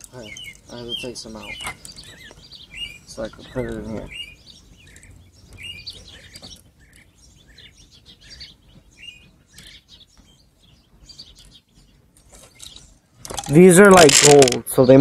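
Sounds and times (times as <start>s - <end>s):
faint outdoor hiss: 0.0s - 15.0s
small birds chirping: 0.0s - 15.0s.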